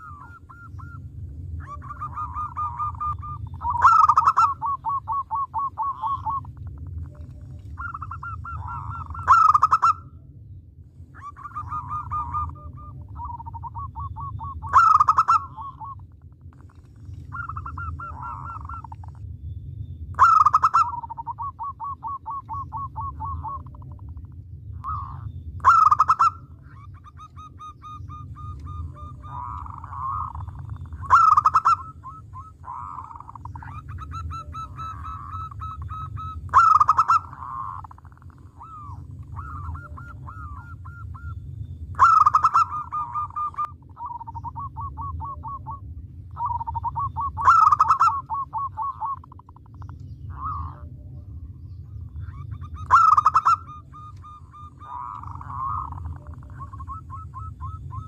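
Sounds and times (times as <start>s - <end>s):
dove cooing: 0.0s - 10.1s, 11.0s - 19.2s, 20.2s - 51.5s, 52.1s - 58.0s
steady low hum: 0.0s - 58.0s
fainter dove cooing: 1.6s - 10.0s, 11.2s - 19.2s, 20.2s - 41.3s, 42.0s - 50.9s, 52.5s - 58.0s.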